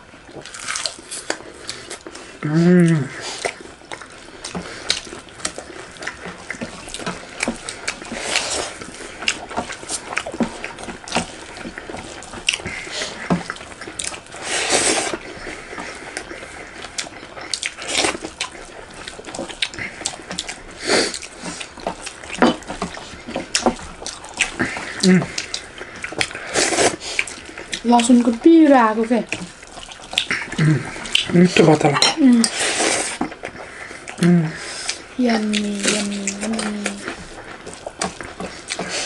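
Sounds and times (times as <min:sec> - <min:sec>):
wet chewing: 0:00.0 - 0:39.0
lip smacking: 0:00.3 - 0:39.0.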